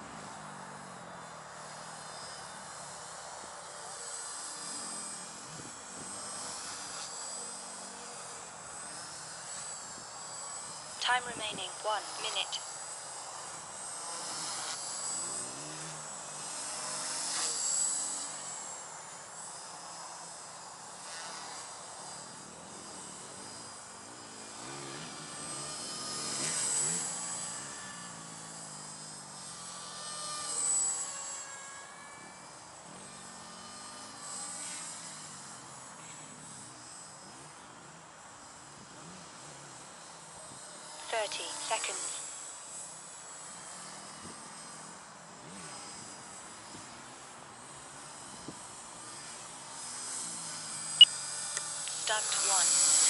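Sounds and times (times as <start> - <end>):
model helicopter motor whine: 0.0 - 53.0.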